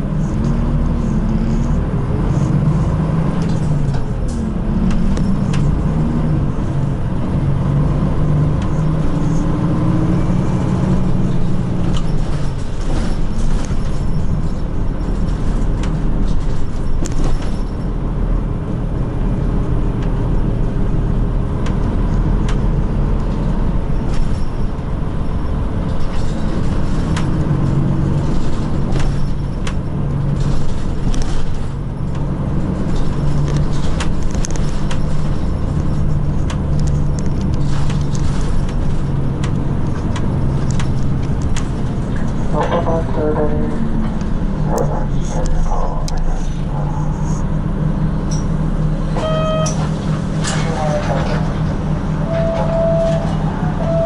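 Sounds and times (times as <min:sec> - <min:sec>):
bus engine humming: 0:00.0 - 0:54.0
road noise: 0:00.0 - 0:54.0.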